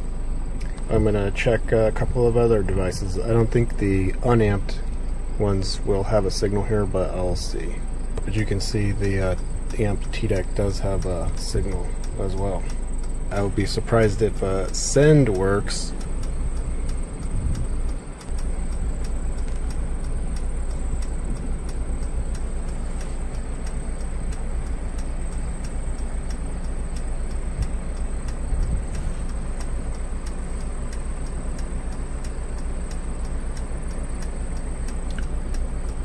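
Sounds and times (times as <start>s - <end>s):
car engine rumbling inside cabin: 0.0s - 36.0s
faint regular ticks: 0.0s - 36.0s.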